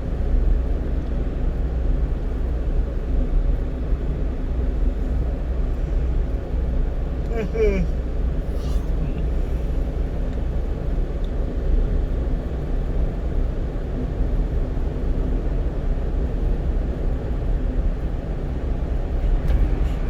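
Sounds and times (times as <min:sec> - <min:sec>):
truck engine and tyre noise: 0:00.0 - 0:20.0.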